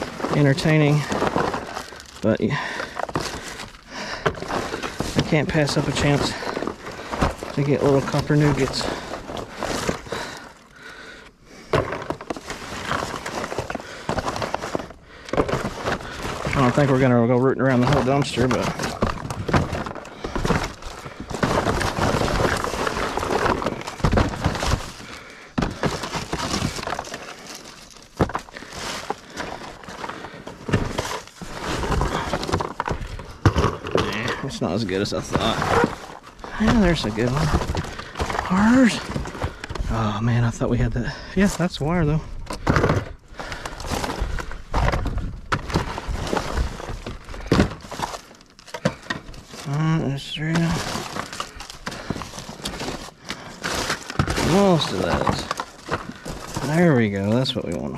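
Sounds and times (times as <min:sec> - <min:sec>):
clinks and knocks of items: 0:00.0 - 0:57.9
rustling and crinkling of trash: 0:00.0 - 0:57.9.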